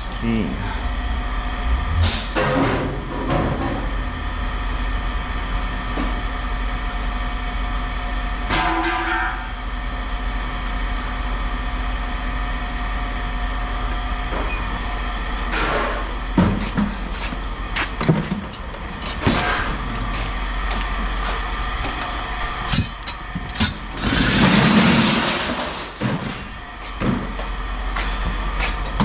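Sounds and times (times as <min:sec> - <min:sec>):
engine running with low rumble: 0:00.0 - 0:29.0.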